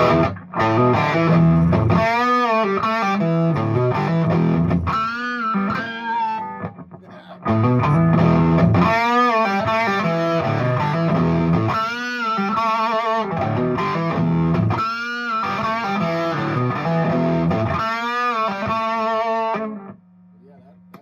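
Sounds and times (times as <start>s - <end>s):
bent high guitar notes: 0.0s - 19.9s
overdriven electric guitar riffing: 0.0s - 20.0s.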